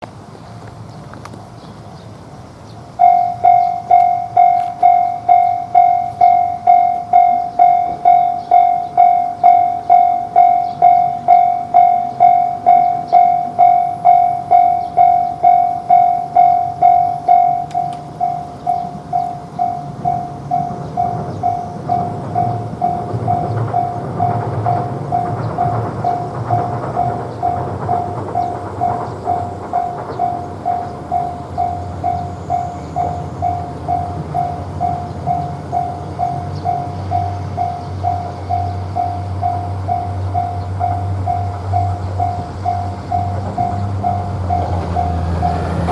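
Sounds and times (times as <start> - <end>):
train rumble: 0.0 - 45.9
railroad crossing bell ringing: 2.8 - 45.9.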